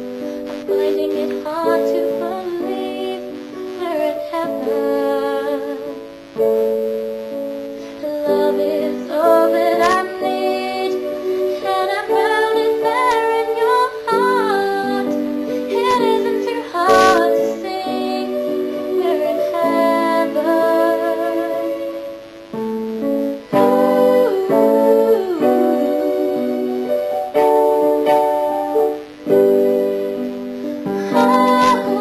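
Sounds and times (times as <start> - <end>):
slow ballad music: 0.0 - 32.0
woman singing: 0.5 - 6.4, 7.8 - 22.3, 23.4 - 28.2, 29.6 - 32.0.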